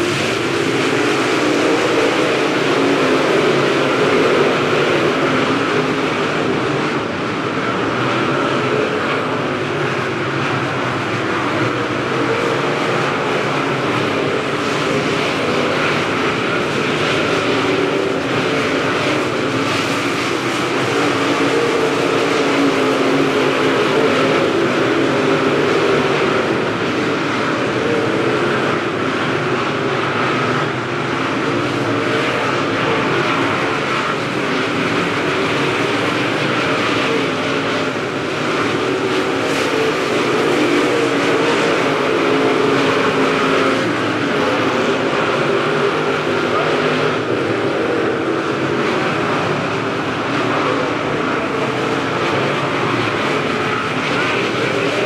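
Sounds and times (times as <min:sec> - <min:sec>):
race car engines roaring: 0:00.0 - 0:55.0.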